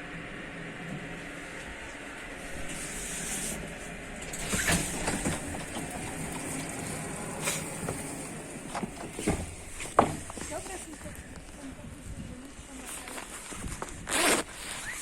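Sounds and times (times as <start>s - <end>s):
train ventilation hum and hiss: 0.0s - 15.0s.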